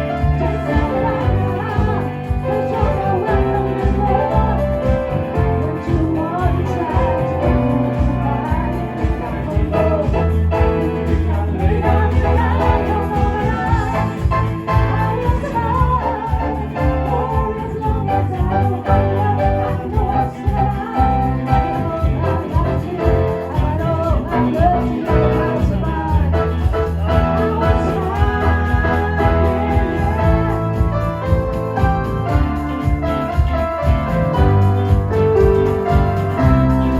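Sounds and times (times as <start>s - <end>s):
bass notes: 0.0s - 36.9s
live band playing: 0.0s - 36.9s
person singing: 0.0s - 36.9s.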